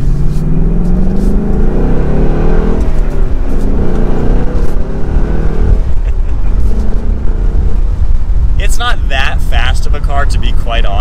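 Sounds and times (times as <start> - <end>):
car engine accelerating: 0.0 - 10.6.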